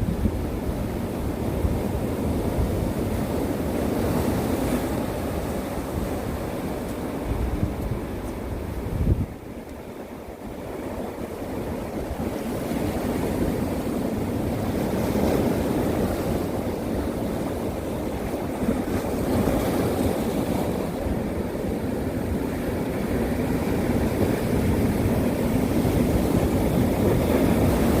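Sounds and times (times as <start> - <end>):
sea waves breaking: 0.0 - 28.0
wind buffeting microphone: 0.0 - 28.0.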